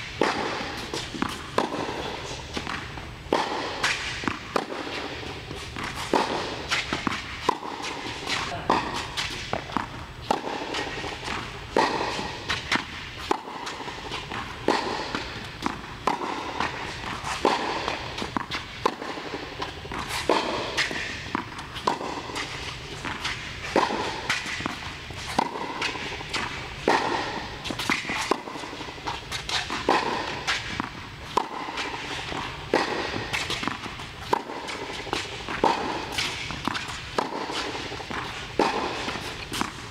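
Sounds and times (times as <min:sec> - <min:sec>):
footsteps on court: 0:00.0 - 0:39.9
tennis ball bouncing: 0:00.0 - 0:39.9
tennis racket hitting ball: 0:00.0 - 0:39.9.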